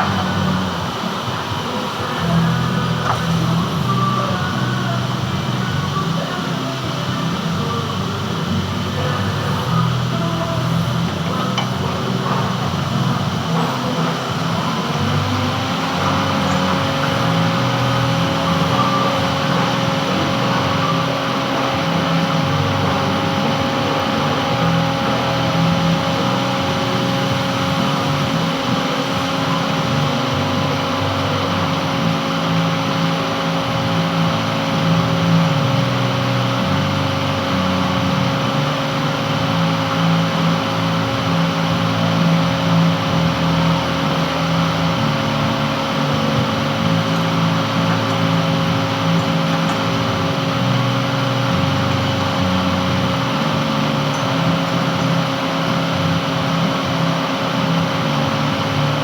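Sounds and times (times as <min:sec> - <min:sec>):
metal lathe running: 0:00.0 - 0:59.0
steady whine: 0:00.0 - 0:59.0.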